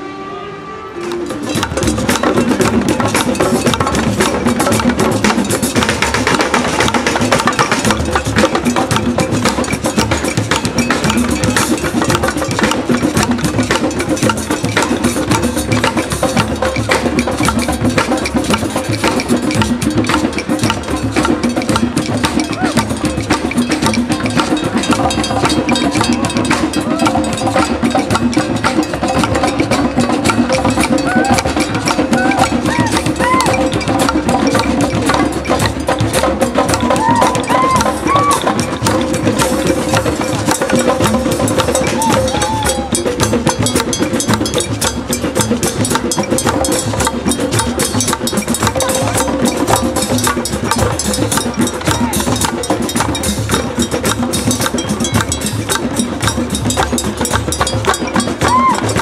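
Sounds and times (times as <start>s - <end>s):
hand drums beaten in rhythm: 1.0s - 59.0s.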